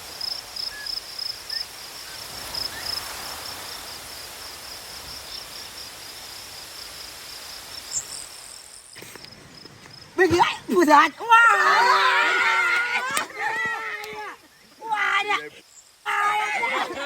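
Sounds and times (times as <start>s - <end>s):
background hiss: 0.0s - 17.0s
insect chirping steadily: 0.0s - 17.0s.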